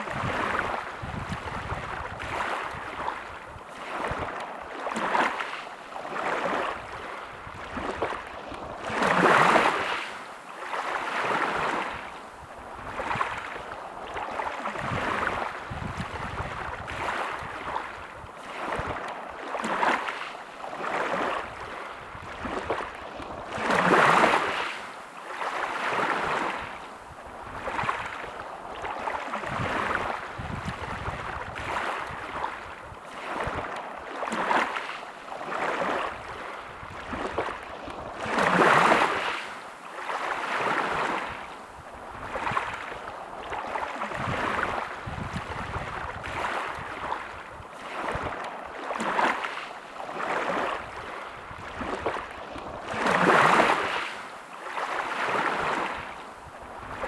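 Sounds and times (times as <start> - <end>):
bigger waves breaking: 0.0 - 57.0
small waves washing onto shore: 0.0 - 57.0.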